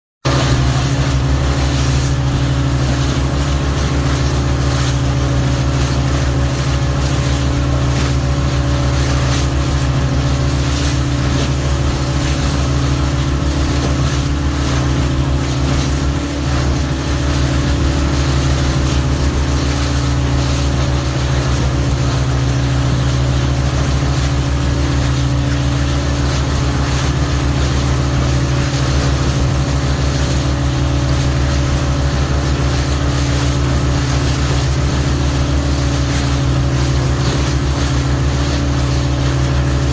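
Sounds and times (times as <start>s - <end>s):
motorboat engine droning: 0.2s - 39.9s
rush of wind and water: 0.2s - 39.9s.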